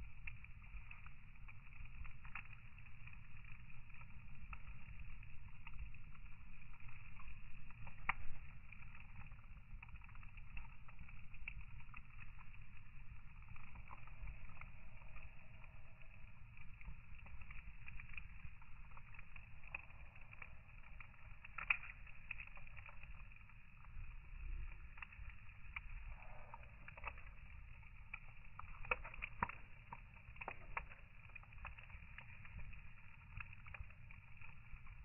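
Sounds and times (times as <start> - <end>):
fire crackling and popping: 0.0 - 35.0
fire rumbling: 0.0 - 35.0.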